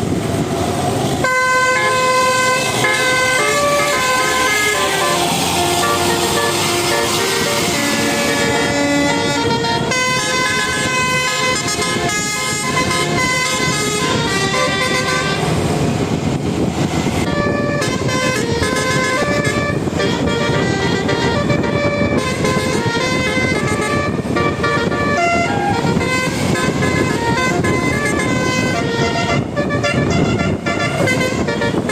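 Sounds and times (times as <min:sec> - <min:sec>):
musical bus air horn: 0:01.2 - 0:15.7, 0:17.2 - 0:31.9.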